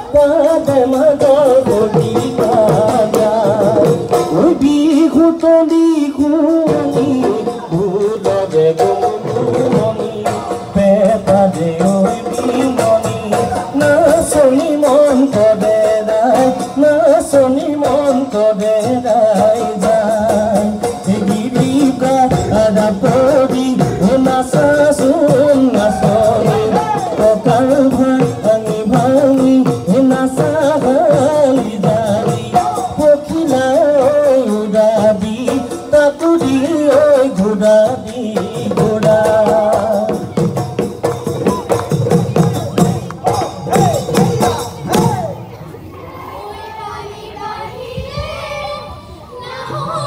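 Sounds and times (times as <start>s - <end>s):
person singing: 0.0s - 45.4s
percussion steady beat: 0.0s - 46.2s.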